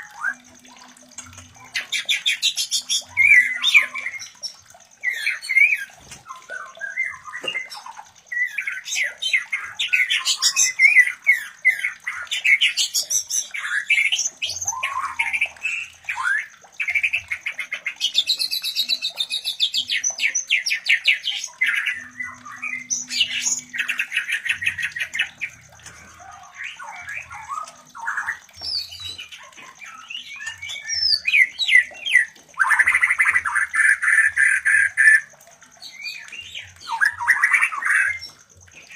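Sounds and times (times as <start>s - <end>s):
birds whistling and trilling: 0.0s - 38.9s.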